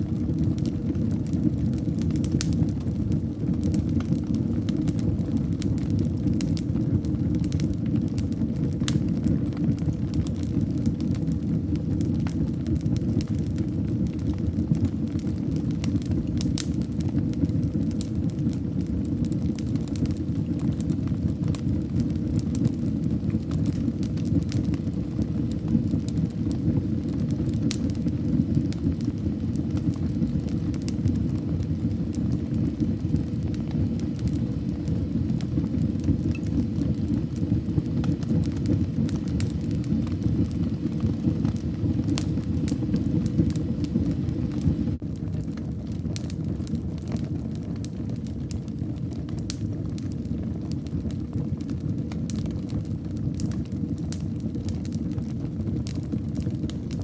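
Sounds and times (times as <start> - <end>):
fire crackling and popping: 0.0 - 57.0
fire rumbling: 0.0 - 57.0.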